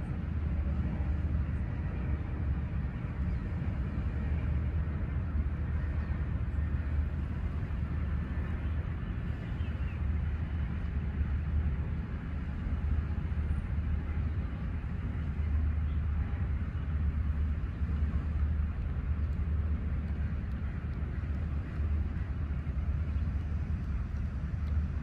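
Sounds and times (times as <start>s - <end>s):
wind buffeting the microphone: 0.0s - 25.0s.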